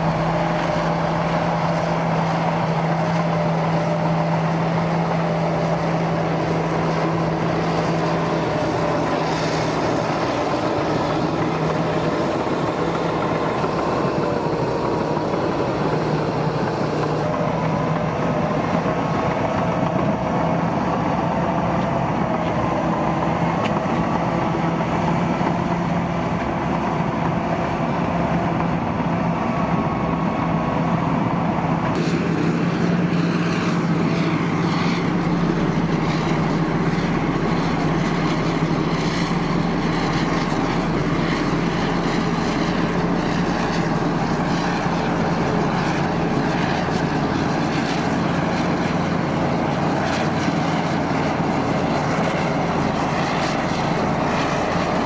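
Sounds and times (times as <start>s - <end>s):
diesel engines under load: 0.0s - 55.0s.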